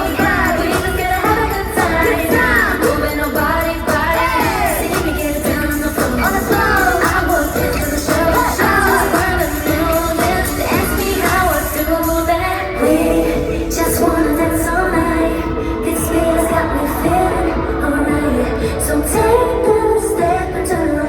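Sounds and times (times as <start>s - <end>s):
pop backing track with beat: 0.0s - 21.0s
women singing: 0.0s - 21.0s.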